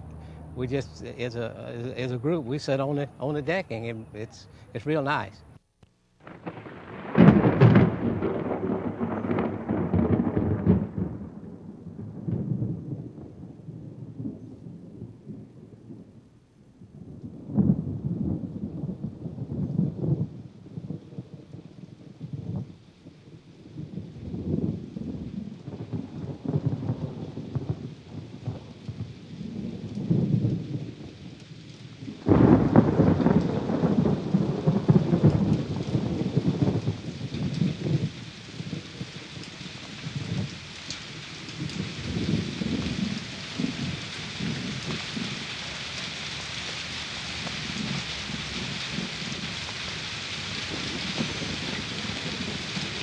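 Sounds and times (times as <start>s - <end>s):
rain: 0.0s - 5.3s, 6.2s - 53.0s
thunder rumbling: 0.0s - 5.3s, 6.2s - 53.0s.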